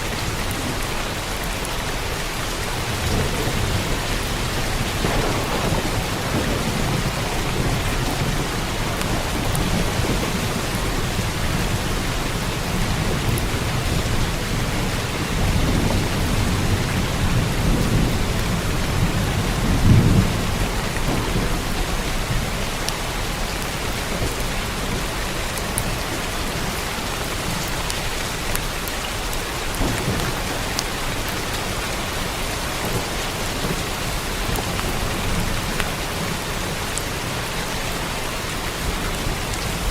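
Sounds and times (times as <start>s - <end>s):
rain on a roof: 0.0s - 39.9s
thunder rumbling: 0.4s - 39.9s.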